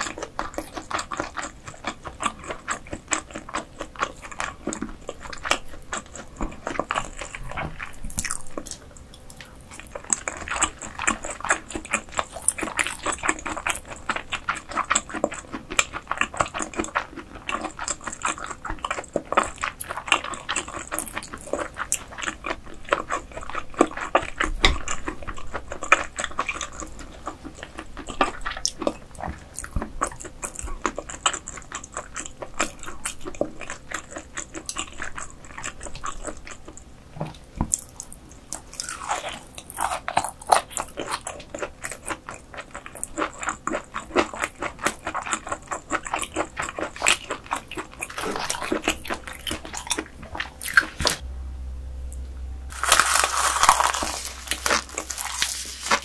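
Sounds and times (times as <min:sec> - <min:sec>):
chewing and wet mouth sounds: 0:00.0 - 0:51.2, 0:52.7 - 0:56.0.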